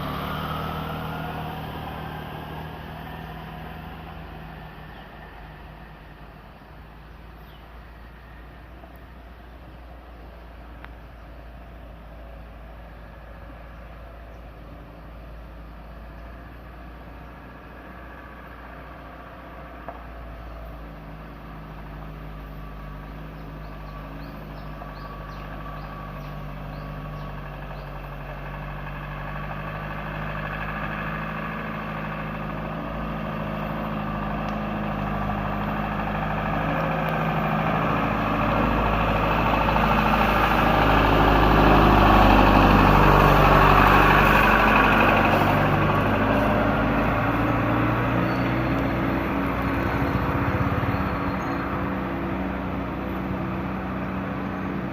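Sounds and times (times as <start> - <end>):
truck engine running: 0.0 - 54.9.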